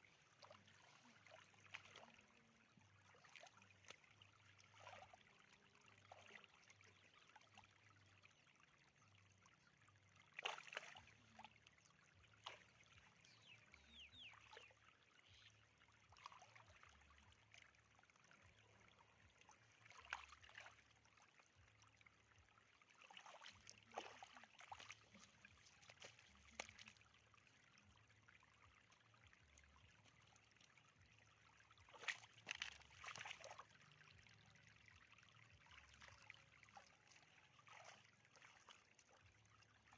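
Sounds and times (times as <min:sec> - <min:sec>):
shallow water splashing: 0:00.0 - 0:07.6, 0:10.3 - 0:11.6, 0:12.2 - 0:39.9.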